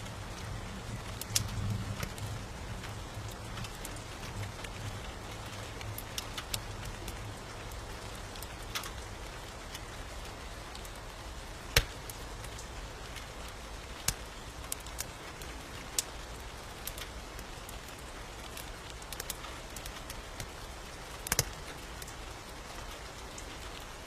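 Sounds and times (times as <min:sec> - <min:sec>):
rain hissing: 0:00.0 - 0:24.0
wood fire crackling and popping: 0:00.0 - 0:24.0.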